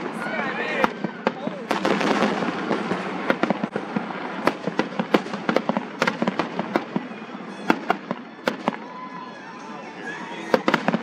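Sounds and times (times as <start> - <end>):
fireworks popping and crackling: 0.0 - 9.0, 10.4 - 11.0.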